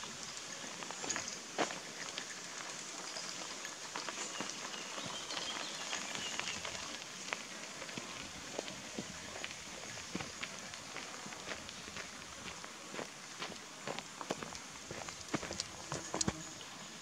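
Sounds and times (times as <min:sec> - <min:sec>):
bicycle tyres crackling over gravel: 0:00.0 - 0:16.6.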